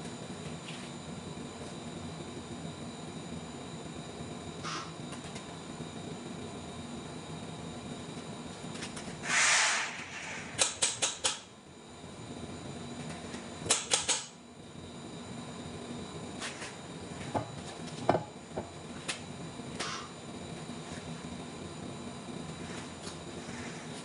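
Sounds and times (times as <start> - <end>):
workshop hum: 0.0 - 24.0.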